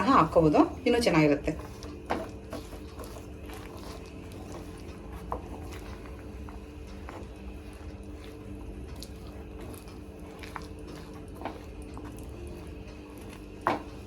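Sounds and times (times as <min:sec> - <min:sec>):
spoon stirring sticky syrup: 0:00.0 - 0:14.0.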